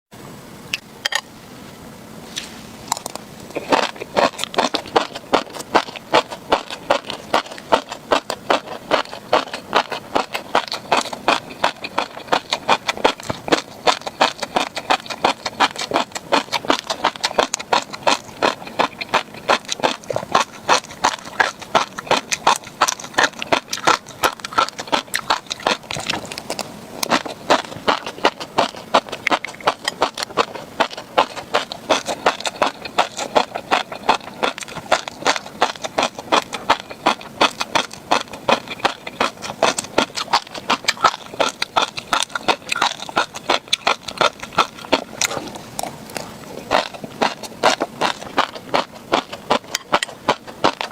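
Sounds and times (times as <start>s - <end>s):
chewing fish roe popping: 2.8s - 50.9s.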